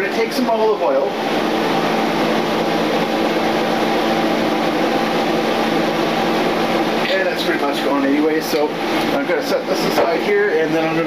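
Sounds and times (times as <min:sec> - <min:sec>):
fan hiss with low hum: 0:00.0 - 0:11.0.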